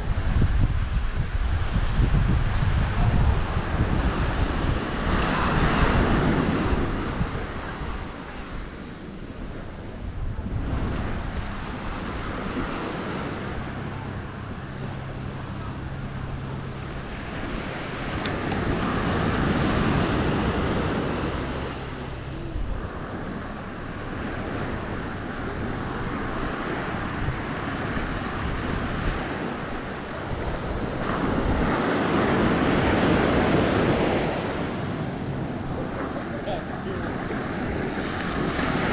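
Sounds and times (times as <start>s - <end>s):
wind buffeting microphone: 0.0s - 38.9s
small waves breaking on shore: 2.2s - 38.9s.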